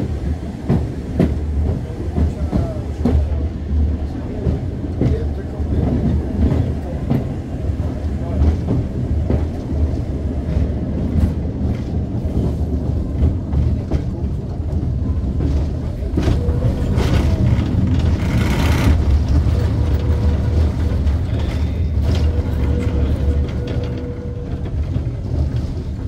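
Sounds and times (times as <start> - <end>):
tram rumbling on track: 0.0 - 26.0.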